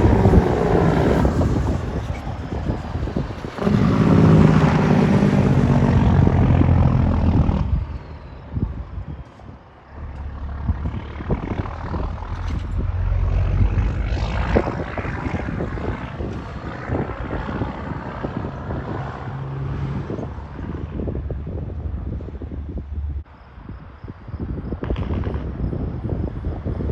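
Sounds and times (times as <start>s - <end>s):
diesel truck passing by: 0.0s - 23.2s.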